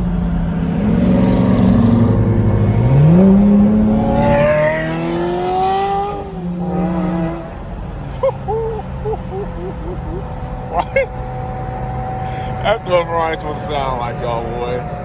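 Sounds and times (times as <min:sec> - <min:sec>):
sports car engine revving: 0:00.5 - 0:15.0.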